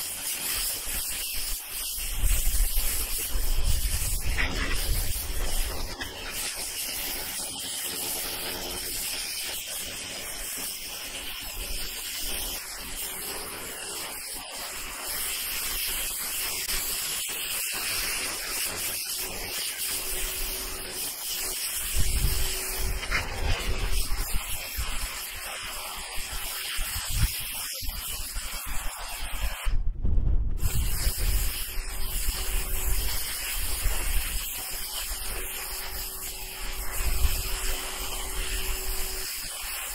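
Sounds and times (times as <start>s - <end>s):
pressure washer spraying: 0.0s - 29.8s, 30.6s - 39.9s.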